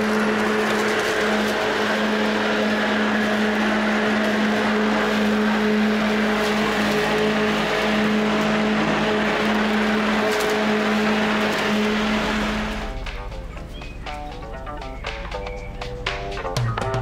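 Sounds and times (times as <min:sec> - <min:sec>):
lawn mower running: 0:00.0 - 0:17.0.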